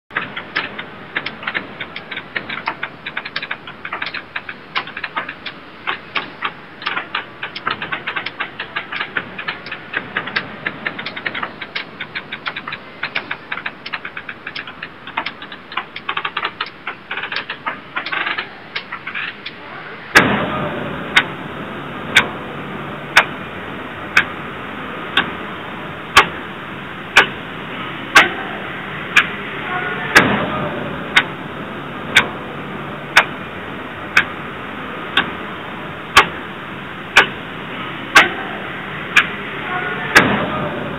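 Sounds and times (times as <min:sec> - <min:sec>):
clocks ticking: 0:00.1 - 0:40.9.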